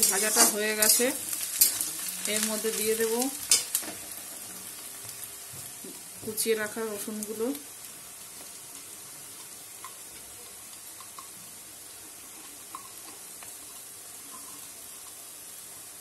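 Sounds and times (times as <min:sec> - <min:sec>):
garlic and onions sizzling in oil: 0:00.0 - 0:16.0.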